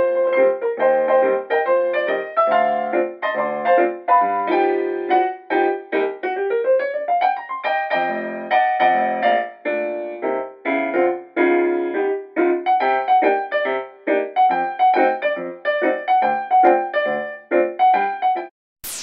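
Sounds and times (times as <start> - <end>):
piano playing light melody: 0.0 - 18.5.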